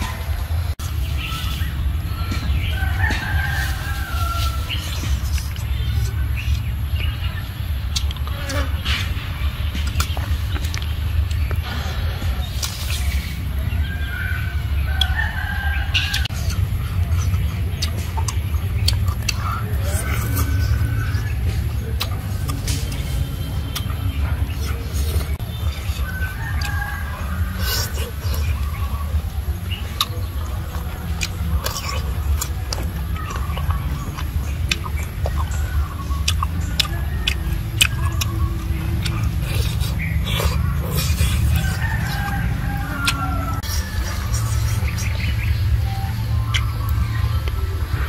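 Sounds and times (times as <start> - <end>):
steady low rumble: 0.0 - 48.0
chewing crunchy food: 2.2 - 48.0
mouth clicks: 4.4 - 14.0, 14.8 - 48.0.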